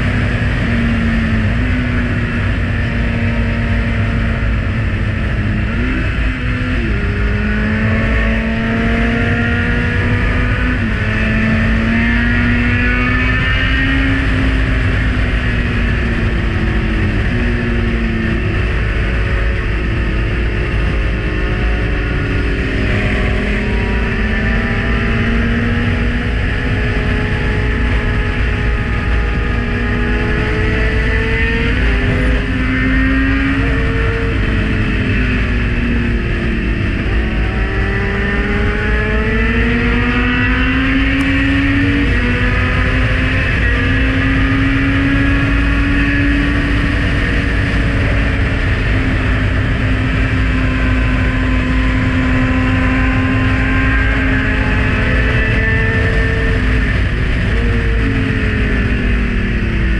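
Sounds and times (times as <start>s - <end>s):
motorcycle engine revving: 0.0s - 59.9s
wind rush on microphone: 0.0s - 59.9s.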